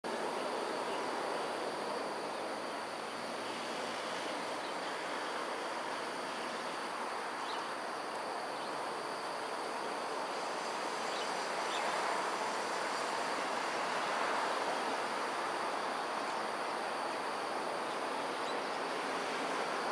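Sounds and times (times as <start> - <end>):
outdoor background hiss: 0.0 - 19.9.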